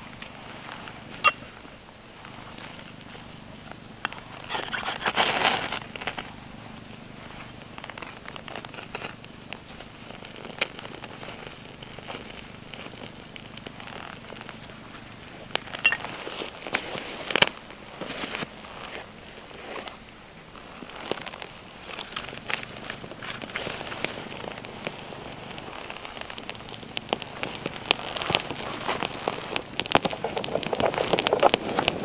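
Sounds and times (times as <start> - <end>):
tinder crackling as it burns: 0.0 - 32.0.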